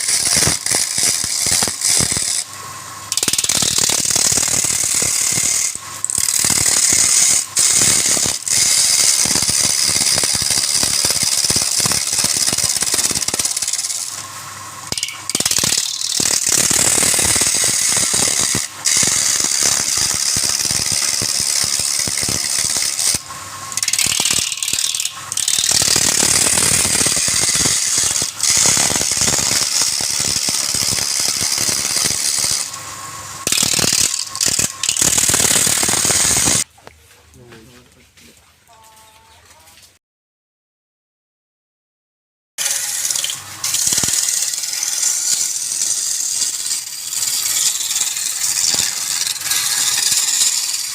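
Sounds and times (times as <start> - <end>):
wood lathe cutting: 0.0 - 36.7, 42.6 - 50.9.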